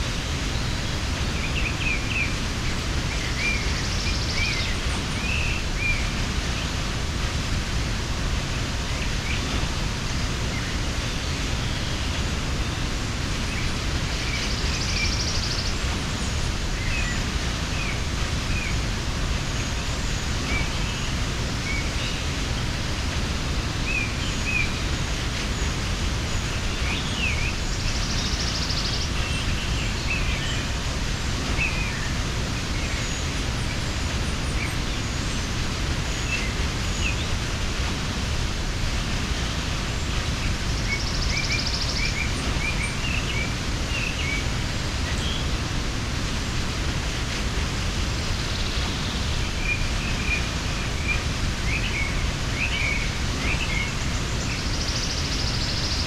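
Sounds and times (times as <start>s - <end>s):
small birds chirping: 0.0s - 56.0s
waterfall rushing: 0.0s - 56.0s.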